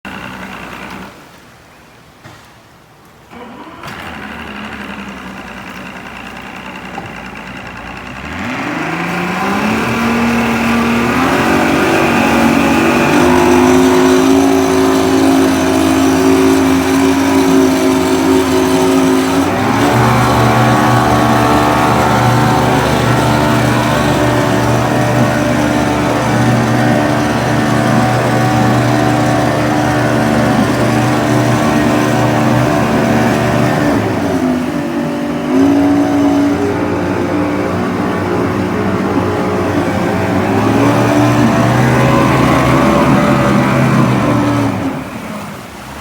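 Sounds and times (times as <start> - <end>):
outboard motor running: 0.0 - 1.6, 3.3 - 46.0.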